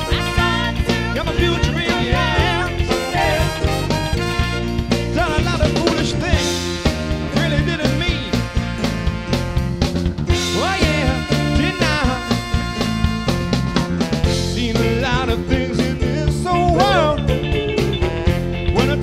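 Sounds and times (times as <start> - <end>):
saxophone: 0.0 - 5.1, 5.7 - 14.8, 16.6 - 19.0
soul band playing: 0.0 - 19.0.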